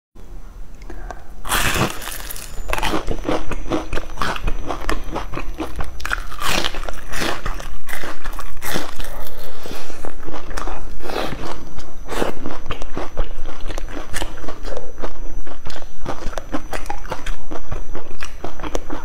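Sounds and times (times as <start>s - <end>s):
crispy crust crunching when chewed: 1.4s - 19.0s.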